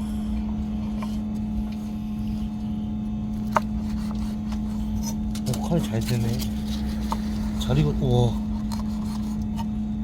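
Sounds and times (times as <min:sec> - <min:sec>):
machine hum with low rumble: 0:00.0 - 0:10.0.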